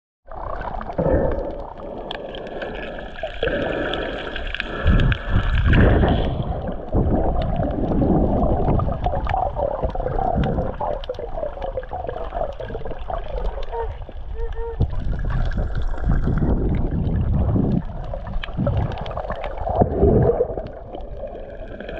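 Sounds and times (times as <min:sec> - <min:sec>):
underwater water rushing: 0:00.3 - 0:21.9.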